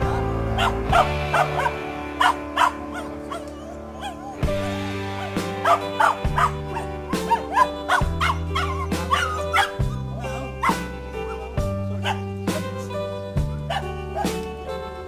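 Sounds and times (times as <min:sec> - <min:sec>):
background music with sustained chords: 0:00.0 - 0:15.0
dog yelping and whining: 0:00.6 - 0:13.0, 0:13.6 - 0:14.5.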